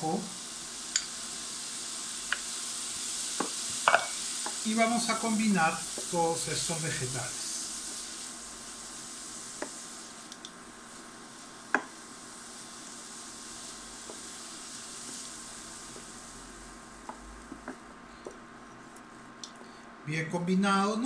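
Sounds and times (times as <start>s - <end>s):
vegetables sizzling in butter: 0.0s - 19.8s.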